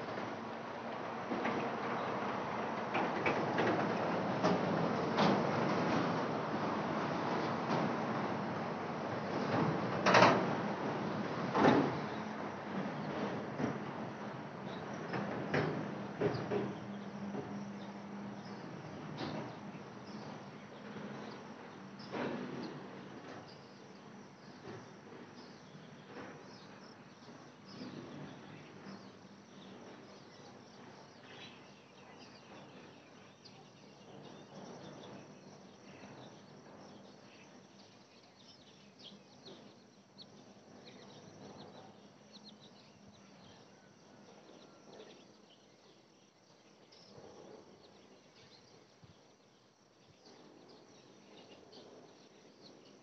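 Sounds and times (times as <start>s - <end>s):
crickets and insects chirring: 0.0s - 53.0s.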